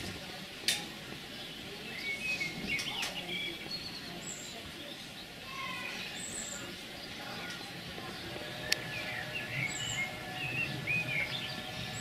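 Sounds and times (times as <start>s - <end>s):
steady low background noise: 0.0s - 12.0s
small birds chirping: 1.0s - 12.0s.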